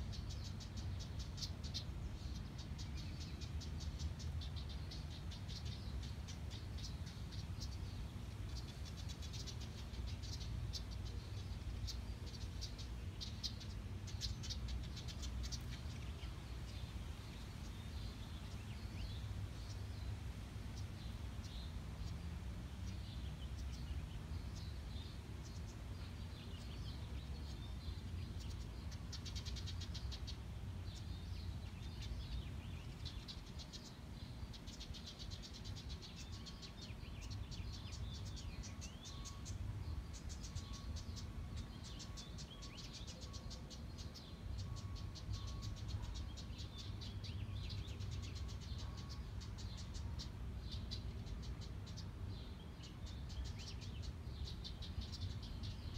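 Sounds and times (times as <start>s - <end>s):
low steady background rumble: 0.0s - 55.9s.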